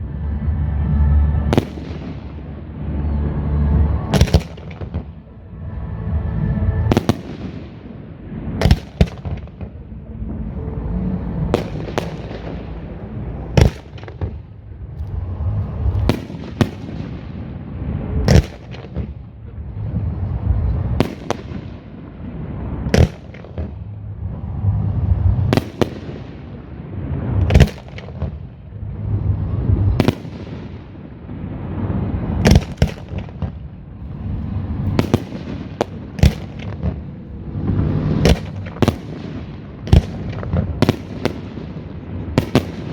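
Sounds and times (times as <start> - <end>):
continuous low rumble: 0.0 - 42.9
fireworks bursting with booms: 1.4 - 5.3, 6.1 - 10.5, 11.2 - 33.8, 34.5 - 42.9.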